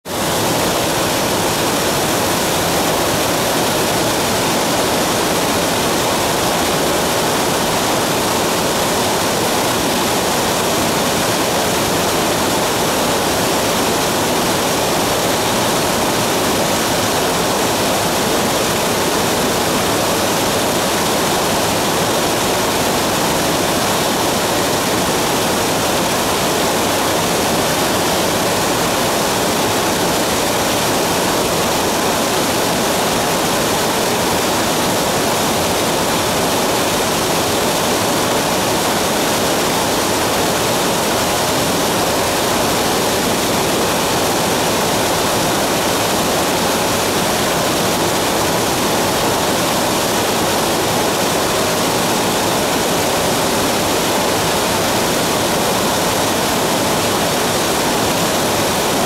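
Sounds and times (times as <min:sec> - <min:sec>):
stream water rushing over rocks: 0:00.1 - 0:59.0.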